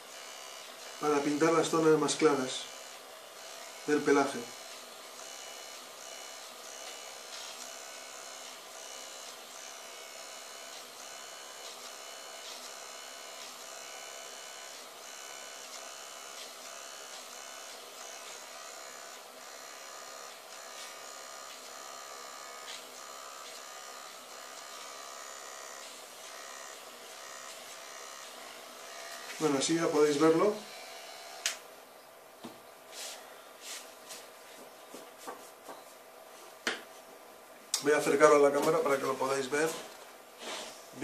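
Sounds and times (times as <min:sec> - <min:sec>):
electric eraser motor whine: 0:00.0 - 0:32.2, 0:37.8 - 0:41.0.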